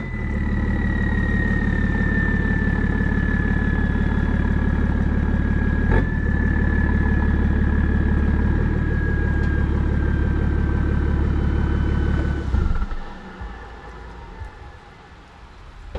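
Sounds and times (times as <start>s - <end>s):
turbo whistle: 0.0s - 13.4s
diesel engine idling: 0.0s - 15.9s.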